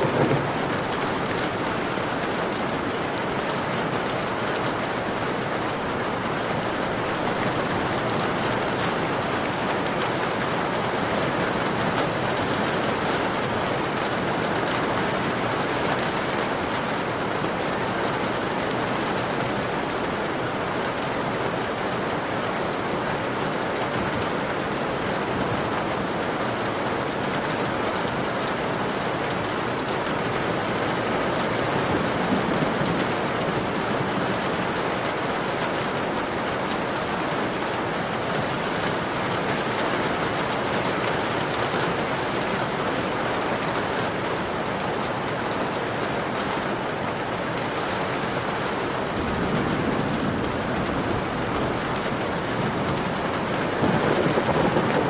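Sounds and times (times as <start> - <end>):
rain patter on a window: 0.0 - 55.0.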